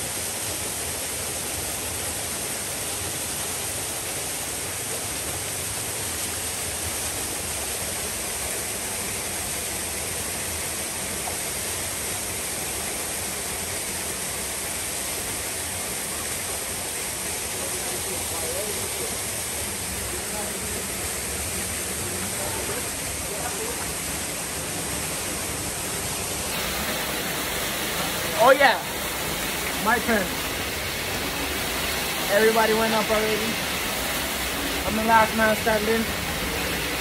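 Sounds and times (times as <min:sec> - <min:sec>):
river cascade roaring: 0:00.0 - 0:37.0.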